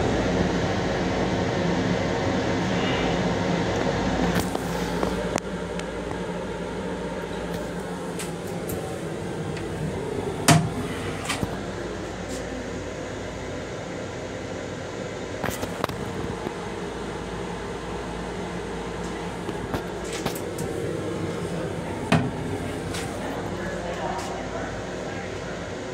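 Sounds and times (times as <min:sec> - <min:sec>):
train mechanical hum: 0:00.0 - 0:25.9.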